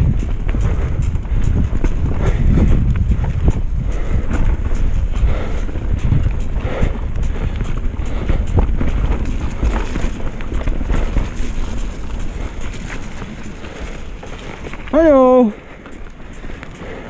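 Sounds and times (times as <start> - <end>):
bike rattling over bumps: 0.0 - 17.0
bike tyres on mud: 0.0 - 17.0
wind buffeting microphone: 0.0 - 17.0.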